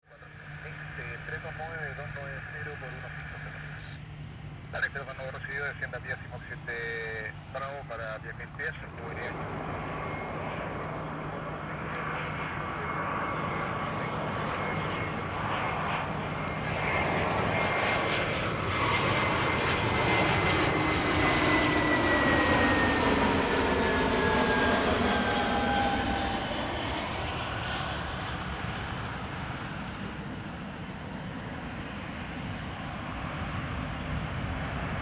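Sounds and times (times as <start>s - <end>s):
jet airliner engines whining: 0.1s - 35.0s.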